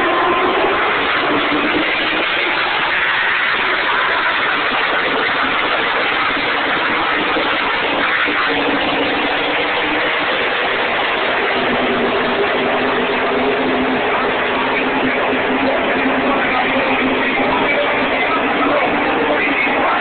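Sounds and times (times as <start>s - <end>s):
race car engines at full throttle: 0.0s - 20.0s.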